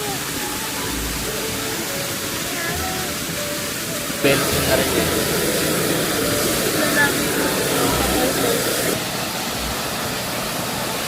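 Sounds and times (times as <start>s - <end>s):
indistinct voices talking: 0.0s - 9.0s
steady rushing hiss: 0.0s - 11.0s.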